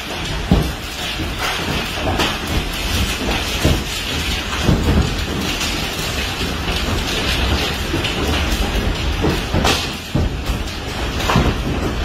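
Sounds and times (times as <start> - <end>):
hail pelting roof and glass: 0.0 - 12.0.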